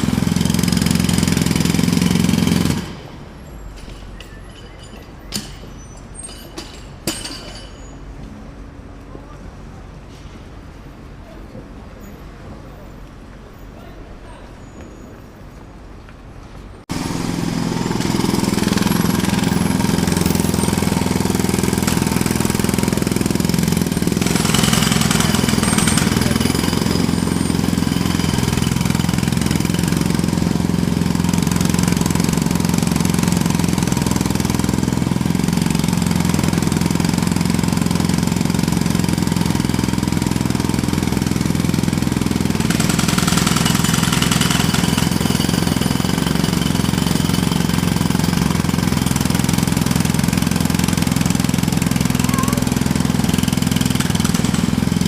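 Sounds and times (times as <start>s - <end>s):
jackhammer hammering: 0.0s - 3.2s, 3.8s - 7.9s, 16.9s - 55.0s.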